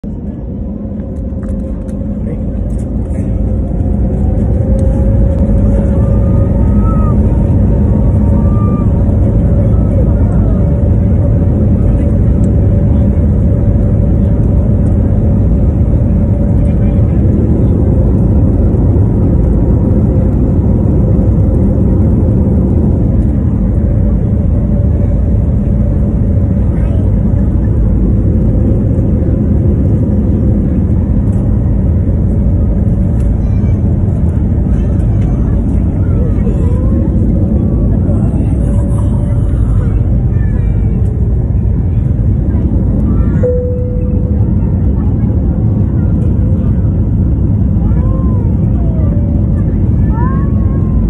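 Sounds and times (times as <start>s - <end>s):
airliner engine rumble: 0.0s - 51.0s.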